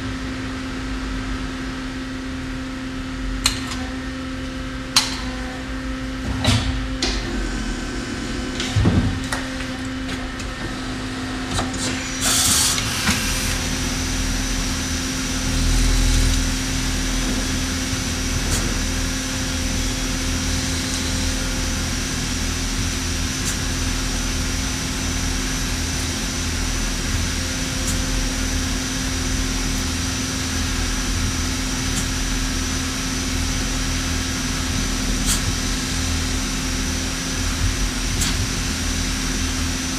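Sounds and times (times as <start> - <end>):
lathe running with hum and rumble: 0.0 - 39.9.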